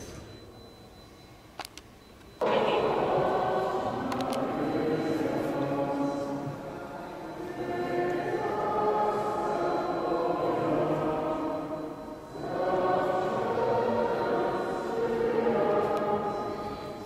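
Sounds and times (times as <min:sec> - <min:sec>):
choir singing held notes: 0:02.4 - 0:17.0.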